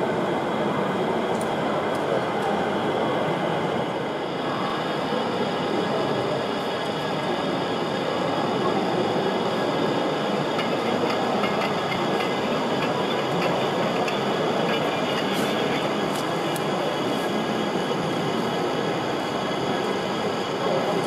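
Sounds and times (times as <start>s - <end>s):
model train rumbling on track: 1.9s - 21.0s.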